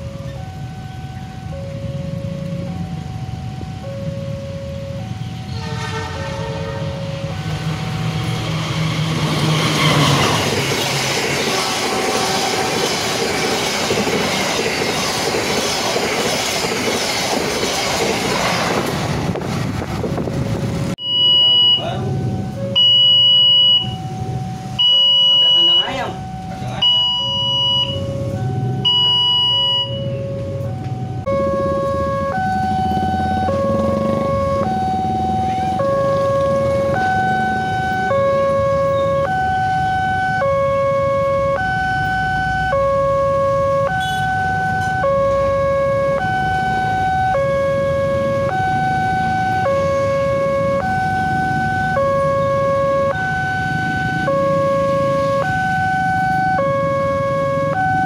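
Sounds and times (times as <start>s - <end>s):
two-tone crossing alarm: 0.0s - 18.8s, 21.0s - 58.0s
rumble of waiting traffic: 0.0s - 58.0s.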